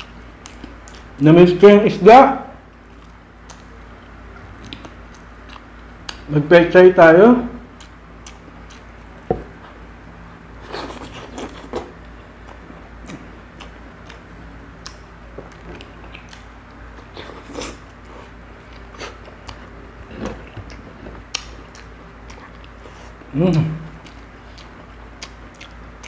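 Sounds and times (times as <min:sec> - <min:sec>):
chewing and lip-smacking: 0:00.0 - 0:01.2, 0:02.7 - 0:06.3, 0:07.7 - 0:09.8, 0:10.6 - 0:26.0.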